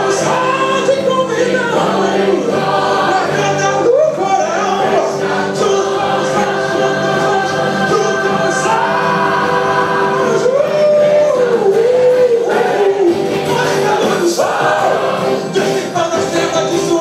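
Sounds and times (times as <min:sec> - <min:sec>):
choir singing: 0:00.0 - 0:17.0
man singing into microphone: 0:00.0 - 0:17.0.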